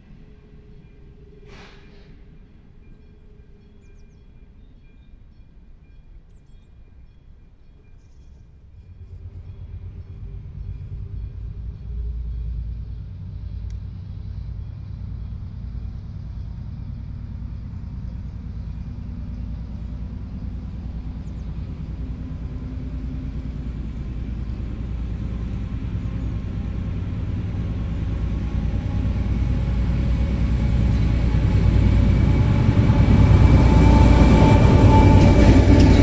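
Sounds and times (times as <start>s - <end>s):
distant freight train rumble: 0.0s - 36.0s.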